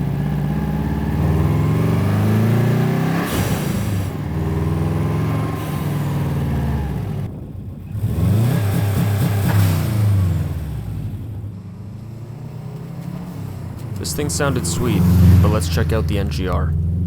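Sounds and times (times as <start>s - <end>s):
turbocharged engine revving: 0.0s - 11.3s, 12.0s - 17.0s.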